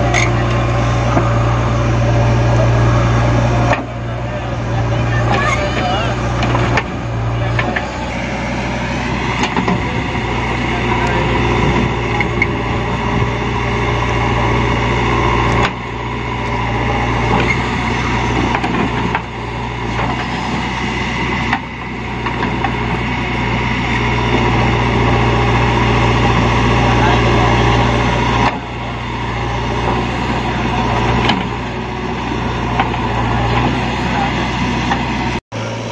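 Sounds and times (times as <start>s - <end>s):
backhoe digging soil: 0.0s - 35.9s
diesel engine running under load: 0.0s - 35.9s.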